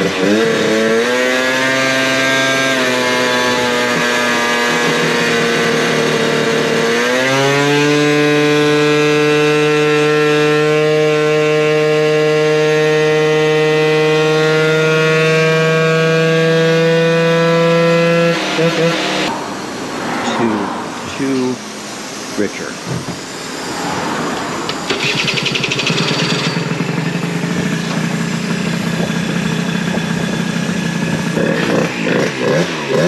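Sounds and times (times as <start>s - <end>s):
scooter engine at full throttle: 0.0s - 33.0s.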